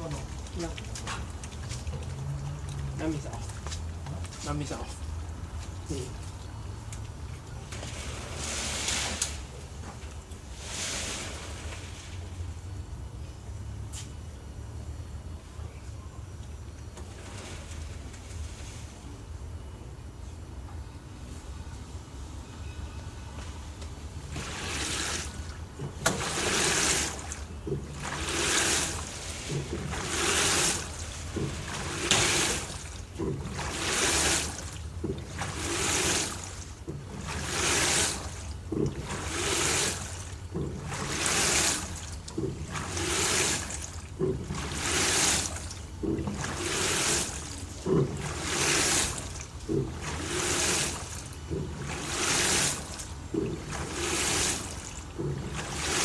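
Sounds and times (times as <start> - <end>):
water swishing in washing machine: 0.0 - 13.1, 16.8 - 19.8, 23.6 - 56.0
low motor hum: 0.0 - 56.0.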